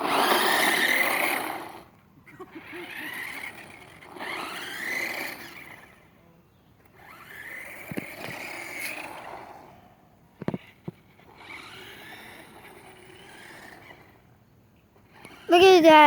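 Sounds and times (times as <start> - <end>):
toy truck motor whining: 0.0 - 1.9, 2.5 - 6.1, 6.9 - 9.7, 10.4 - 14.3, 15.0 - 16.0.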